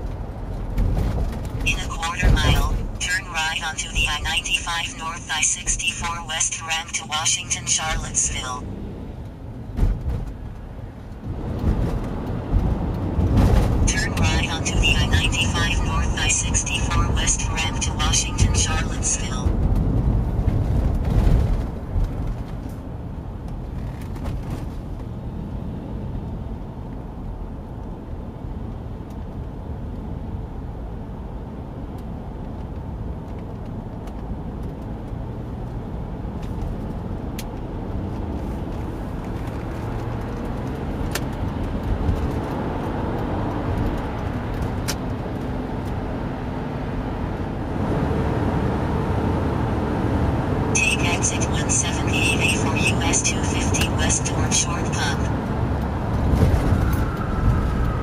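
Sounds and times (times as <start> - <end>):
car cabin road and engine noise: 0.0 - 58.0.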